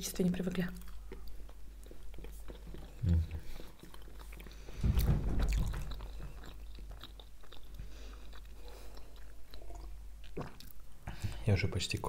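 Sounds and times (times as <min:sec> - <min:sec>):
chewing soft sponge bars: 0:00.6 - 0:10.8.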